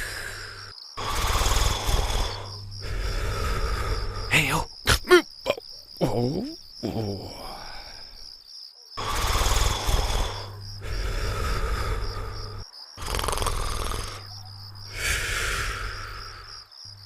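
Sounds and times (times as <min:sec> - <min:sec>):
cartoon snoring: 0:00.0 - 0:08.0, 0:09.0 - 0:16.6
crickets chirping: 0:00.0 - 0:17.0.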